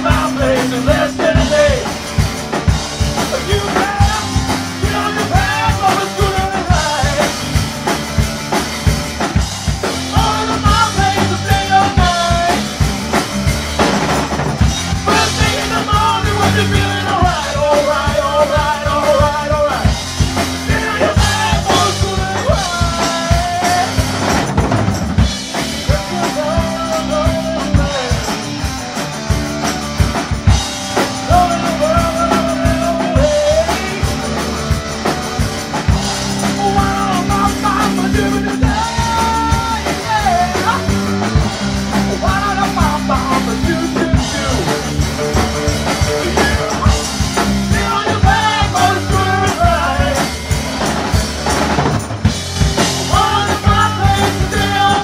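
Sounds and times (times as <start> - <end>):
bass: 0.0 - 55.0
drum kit beat: 0.0 - 55.0.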